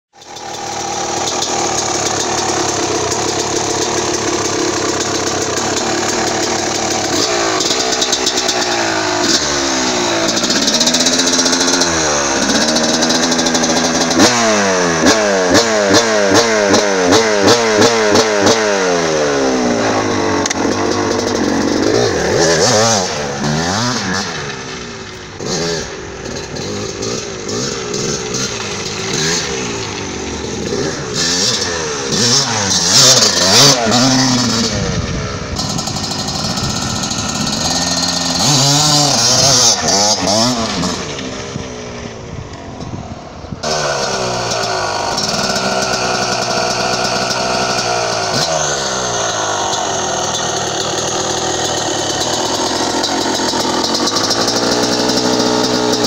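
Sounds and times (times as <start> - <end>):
two-stroke motocross engine revving: 0.1 - 56.0.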